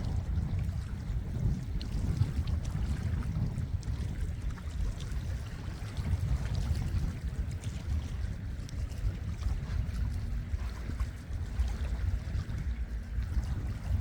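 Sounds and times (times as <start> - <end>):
sea water lapping and splashing: 0.0 - 14.0
wind rumble on microphone: 0.0 - 14.0.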